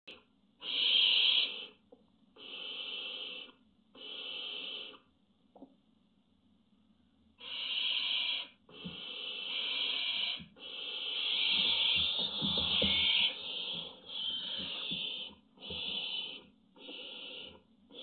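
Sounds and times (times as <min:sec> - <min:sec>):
owl hissing: 0:00.6 - 0:01.8, 0:02.4 - 0:05.0, 0:07.4 - 0:18.0.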